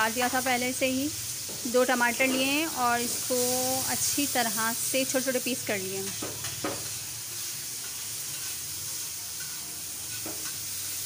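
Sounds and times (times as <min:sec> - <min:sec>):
tomatoes sizzling on griddle: 0:00.0 - 0:11.0.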